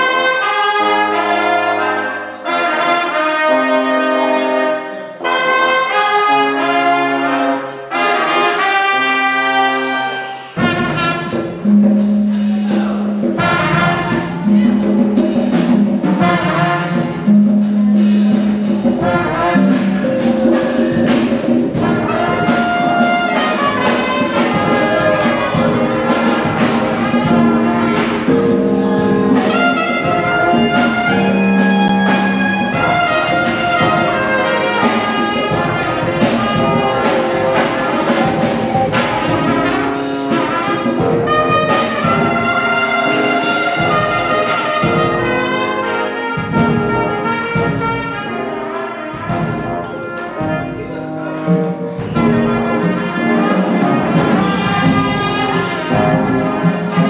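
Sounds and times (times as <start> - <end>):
drums keeping a steady beat: 0.0 - 57.0
trumpets and trombones playing: 0.0 - 57.0.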